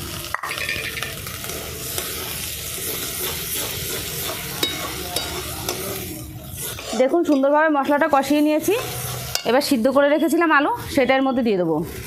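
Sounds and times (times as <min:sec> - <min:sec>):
peas frying with steady sizzle: 0:00.0 - 0:12.0
metal spatula scraping pan: 0:00.4 - 0:12.0.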